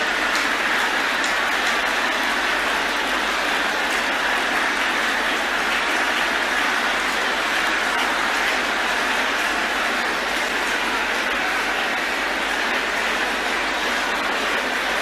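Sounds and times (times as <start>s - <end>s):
congregation praying aloud: 0.0s - 15.0s.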